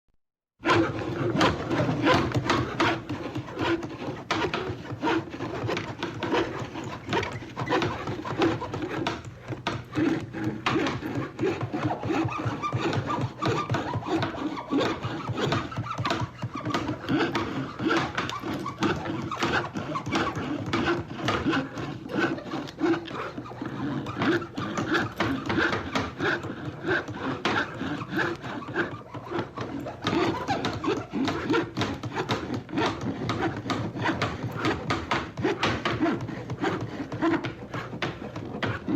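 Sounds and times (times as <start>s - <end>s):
hand saw sawing: 0.6s - 38.9s
hammer striking wood: 0.7s - 38.9s.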